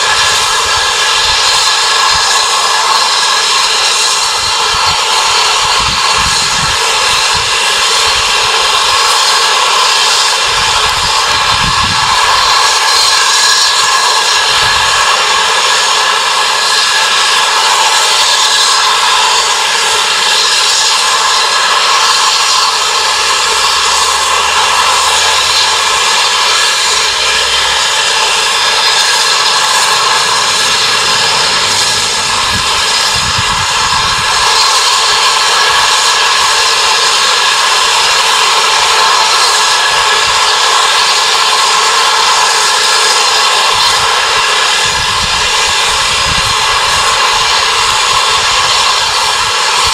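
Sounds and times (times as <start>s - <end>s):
steam hissing from safety valves: 0.0s - 49.9s.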